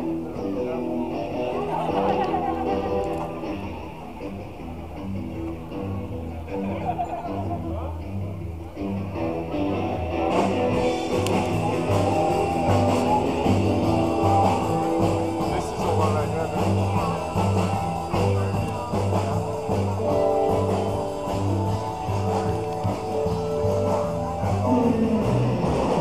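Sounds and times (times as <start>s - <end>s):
rock and roll music with guitar: 0.0s - 26.0s.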